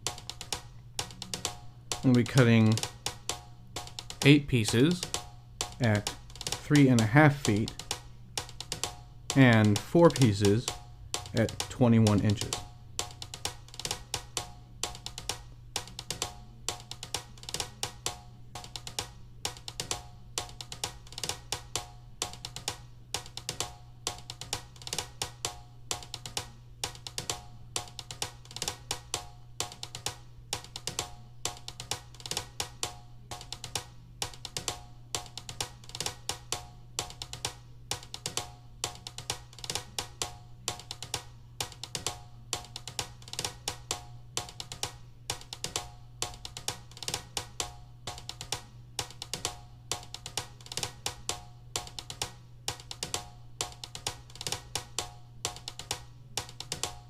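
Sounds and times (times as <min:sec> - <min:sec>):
snare and kick drum beat: 0:00.0 - 0:57.0.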